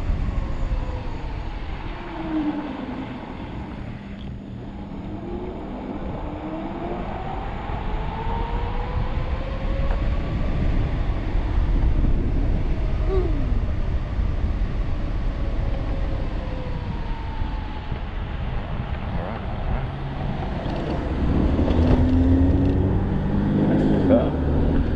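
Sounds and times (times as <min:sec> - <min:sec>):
wind and road rumble: 0:00.0 - 0:24.9.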